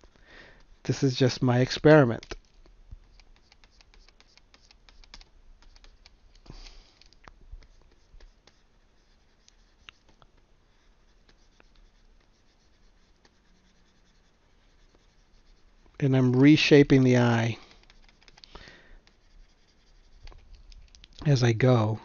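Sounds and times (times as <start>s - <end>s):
stylus scratching on tablet: 1.8s - 6.4s, 7.6s - 21.2s.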